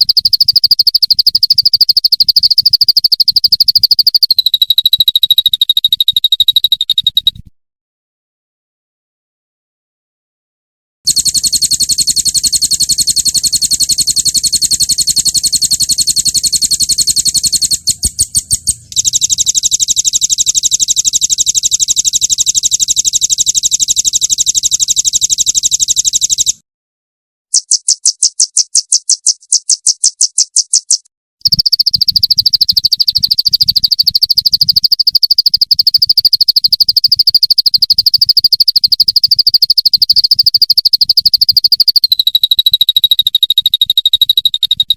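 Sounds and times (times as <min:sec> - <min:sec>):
songbird trilling: 0:00.0 - 0:07.4, 0:11.1 - 0:26.6, 0:27.6 - 0:44.9.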